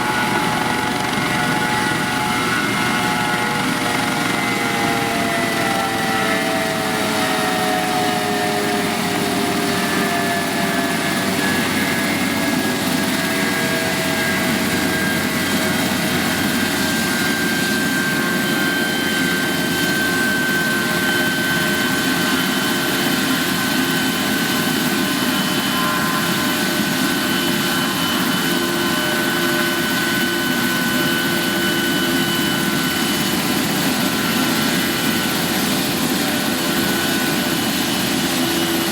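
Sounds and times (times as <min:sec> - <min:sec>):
helicopter rotor noise: 0:00.0 - 0:38.9
helicopter turbine whine: 0:00.0 - 0:38.9.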